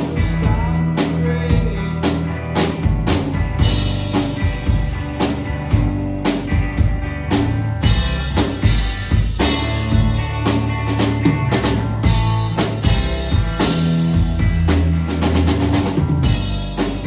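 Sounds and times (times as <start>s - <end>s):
rock band playing: 0.0s - 17.0s
drum kit kick and snare hits: 2.7s - 17.0s.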